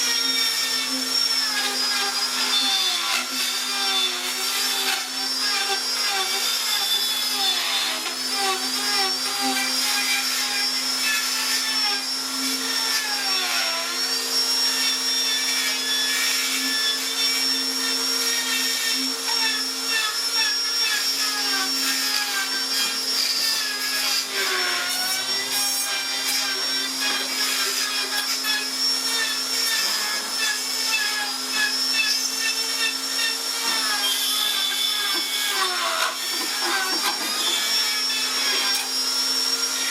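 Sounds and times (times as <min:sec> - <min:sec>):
power tool motor on wood: 0:00.0 - 0:39.9.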